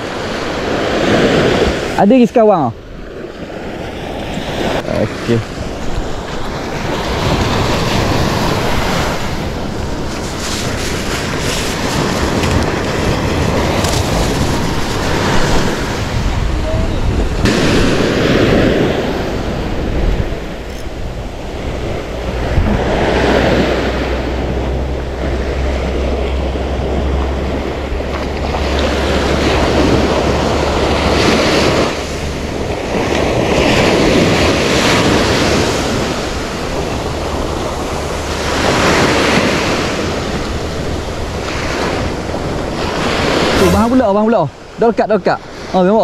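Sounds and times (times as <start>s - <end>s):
sea waves washing on shore: 0.0s - 46.0s
wind buffeting microphone: 0.0s - 46.0s.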